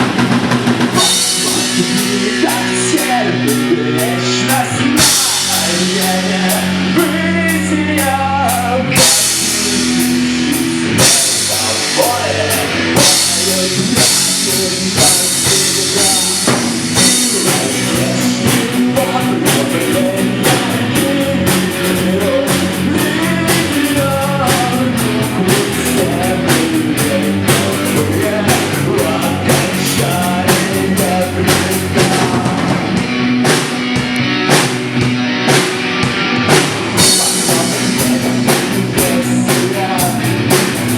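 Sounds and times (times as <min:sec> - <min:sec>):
drum kit: 0:00.0 - 0:40.9
electric guitar: 0:00.0 - 0:40.9
rock band playing live: 0:00.0 - 0:40.9.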